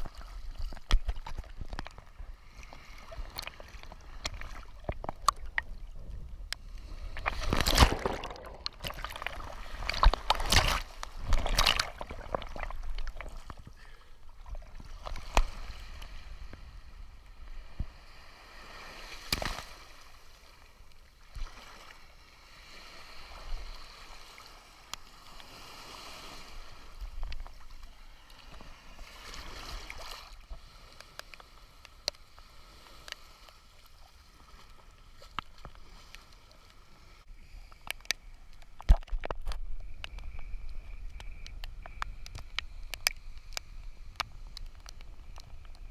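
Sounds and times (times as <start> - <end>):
sea water sloshing and splashing: 0.0 - 45.9.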